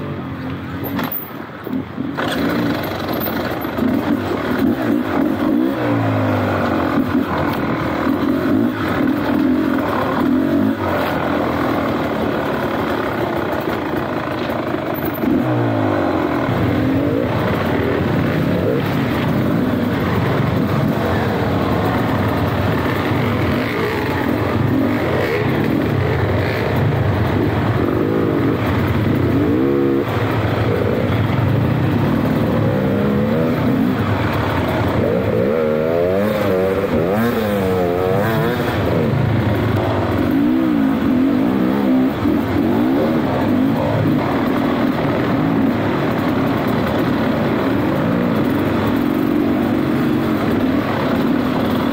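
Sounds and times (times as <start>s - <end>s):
dirt bike engine revving: 1.8s - 13.2s, 14.8s - 51.9s.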